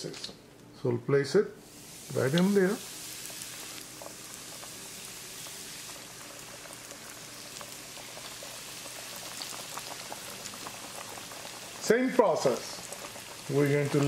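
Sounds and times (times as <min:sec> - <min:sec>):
fish deep-frying in oil: 0:01.7 - 0:14.0.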